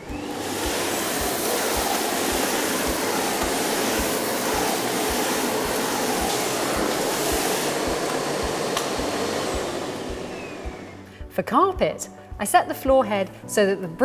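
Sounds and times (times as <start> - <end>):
vacuum cleaner running: 0.0 - 11.3.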